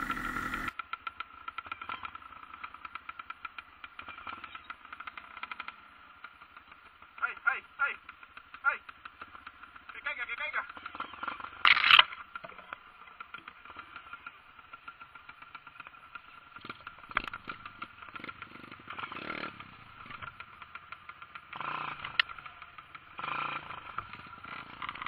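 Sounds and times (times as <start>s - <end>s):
motorcycle engine at low revs: 0.0s - 25.0s.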